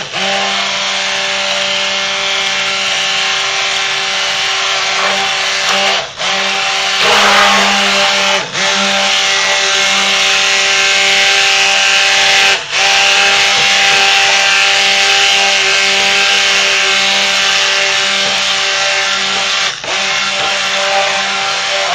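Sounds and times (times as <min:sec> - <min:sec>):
stick blender motor hum: 0:00.0 - 0:21.9.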